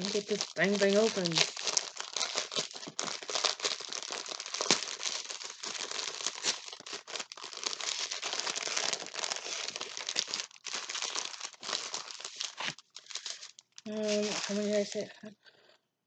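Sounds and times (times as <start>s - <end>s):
plastic tearing: 0.0s - 15.0s
plastic packaging crinkling: 0.0s - 15.8s.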